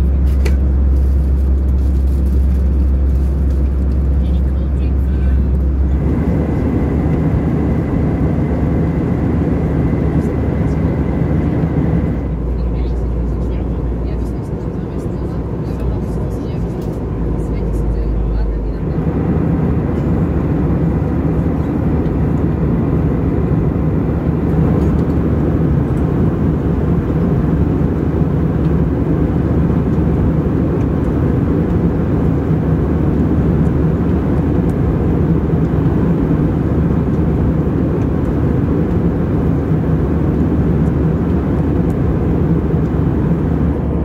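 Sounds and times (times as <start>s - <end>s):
airflow rush in aircraft cabin: 0.0s - 44.0s
jet engine drone: 0.0s - 44.0s.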